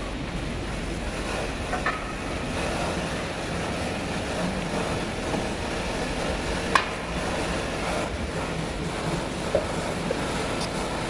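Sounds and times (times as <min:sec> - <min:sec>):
rushing rumbling background noise: 0:00.0 - 0:11.0.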